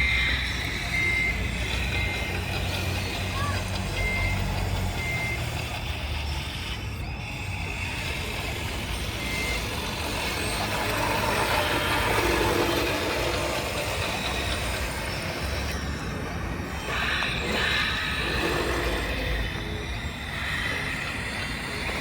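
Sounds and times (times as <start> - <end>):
noisy mechanical wash: 0.0 - 22.0
simulated diesel engine sound: 0.0 - 22.0.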